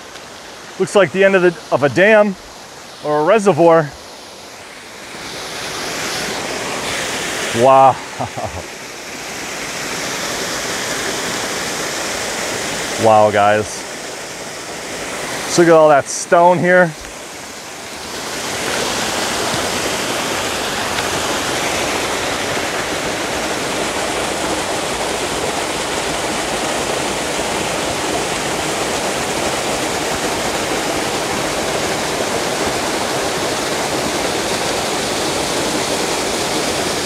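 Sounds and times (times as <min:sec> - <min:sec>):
water rushing over dam: 0:00.0 - 0:37.0.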